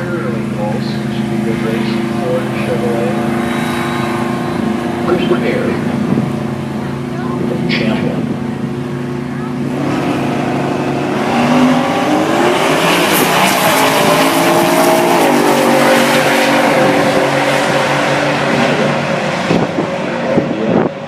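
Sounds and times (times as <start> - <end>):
racing engines revving hard: 0.0 - 21.0.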